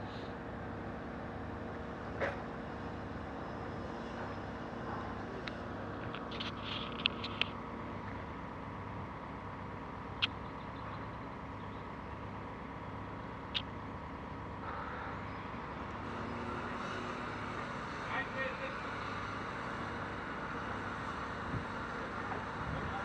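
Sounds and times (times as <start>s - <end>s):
crane engine humming: 0.0s - 23.0s.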